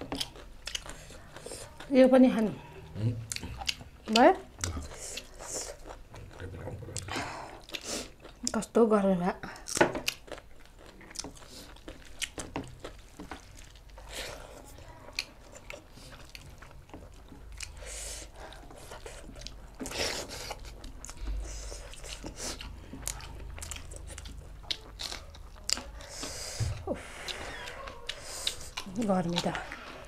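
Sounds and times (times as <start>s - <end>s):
chewing and biting food: 0.0s - 8.7s, 9.5s - 30.0s.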